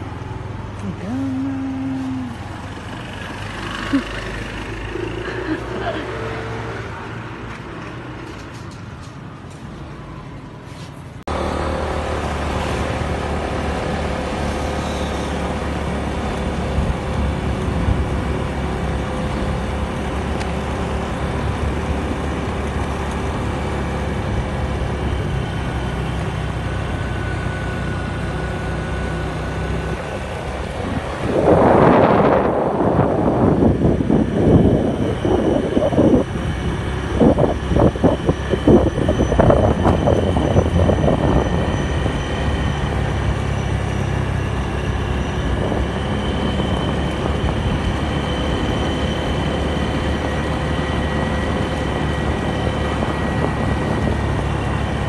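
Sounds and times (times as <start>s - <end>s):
vehicle engine running: 0.0s - 8.5s, 11.3s - 55.0s.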